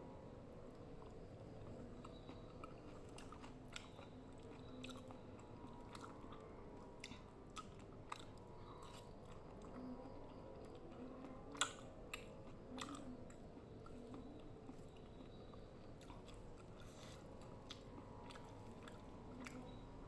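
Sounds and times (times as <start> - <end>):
chewing and mouth sounds: 1.0 - 19.8.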